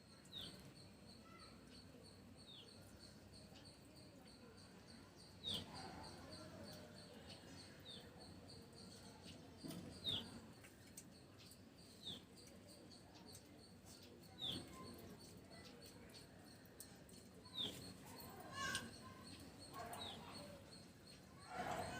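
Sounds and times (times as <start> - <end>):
faint background noise: 0.0 - 21.9
small bird chirping: 0.1 - 21.9.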